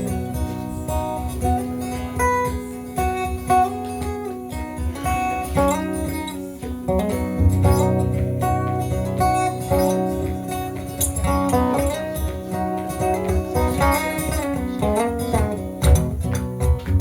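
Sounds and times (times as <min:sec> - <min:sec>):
acoustic guitar strummed and picked: 0:00.0 - 0:17.0.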